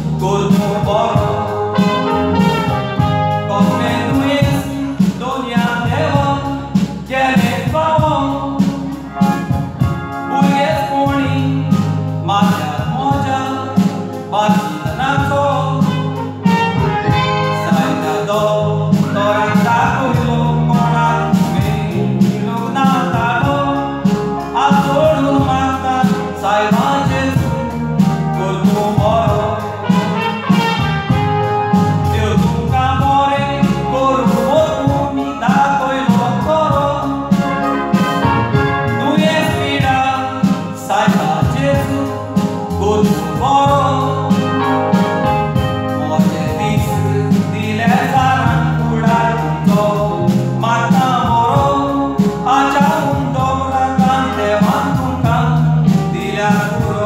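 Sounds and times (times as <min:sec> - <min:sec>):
instrumental accompaniment with bass: 0:00.0 - 0:57.0
person singing: 0:00.0 - 0:57.0.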